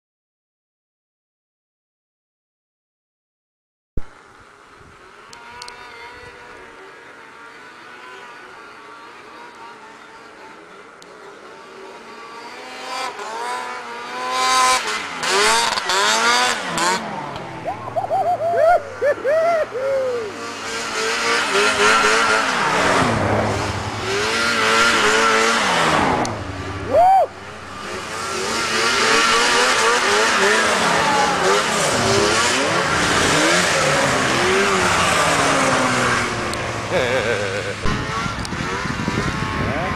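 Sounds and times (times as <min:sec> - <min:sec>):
snowmobile engine running: 0:04.7 - 0:39.9.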